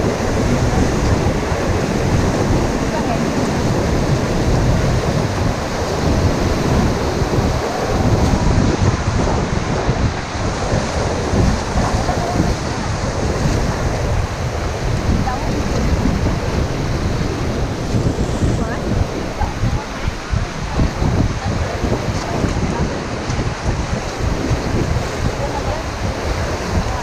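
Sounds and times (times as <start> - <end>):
rushing river: 0.0 - 27.0
wind buffeting microphone: 0.0 - 27.0.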